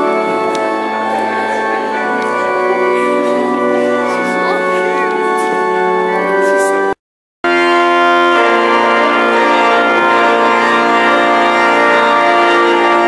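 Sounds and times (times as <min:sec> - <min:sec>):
organ playing sustained chords: 0:00.0 - 0:13.0.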